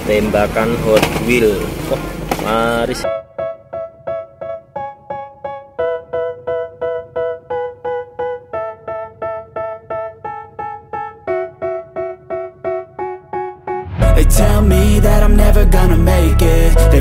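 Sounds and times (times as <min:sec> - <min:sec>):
keyboard repeating chord: 0:03.0 - 0:17.0.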